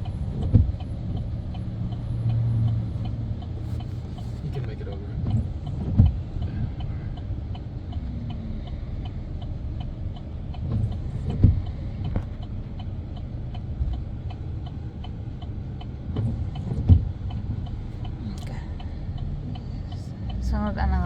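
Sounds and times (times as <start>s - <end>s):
truck driving rumble: 0.0s - 21.0s
turn signal ticking: 0.0s - 21.0s.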